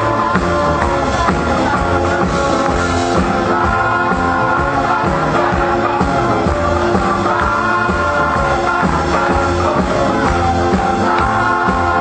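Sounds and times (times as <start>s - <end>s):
pop band playing live: 0.0s - 12.0s
steady drum beat: 0.0s - 12.0s.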